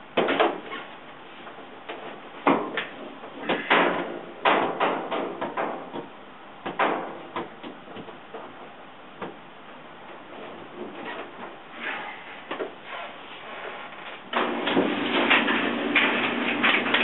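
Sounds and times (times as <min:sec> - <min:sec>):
steady low hiss: 0:00.0 - 0:14.4.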